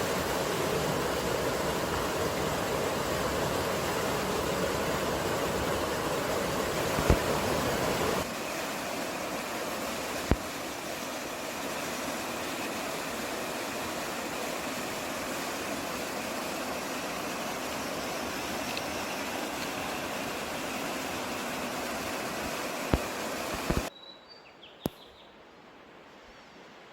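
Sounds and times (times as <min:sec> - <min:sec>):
running water: 0:00.0 - 0:23.9
wind: 0:00.0 - 0:26.9.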